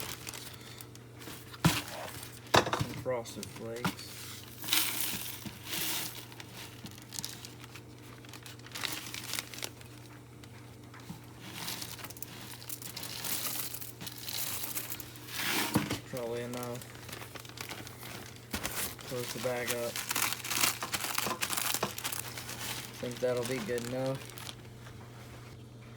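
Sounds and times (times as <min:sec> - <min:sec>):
cereal flakes rustling and crunching: 0:00.0 - 0:01.0, 0:03.4 - 0:10.2, 0:11.0 - 0:24.7
plastic bag crinkling: 0:00.0 - 0:25.6.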